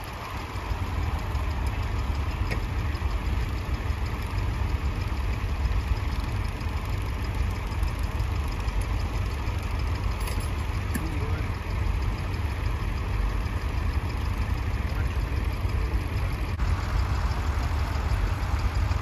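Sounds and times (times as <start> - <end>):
distant tractor engines rumbling: 0.0 - 19.0.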